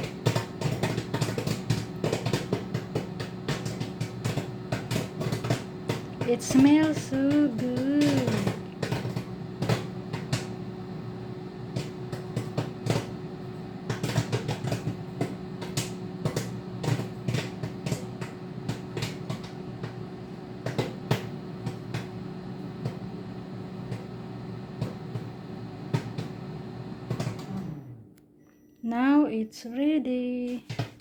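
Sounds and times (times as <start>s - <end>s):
popcorn popping: 0.0s - 28.0s, 30.4s - 31.0s
microwave oven hum: 0.0s - 31.0s.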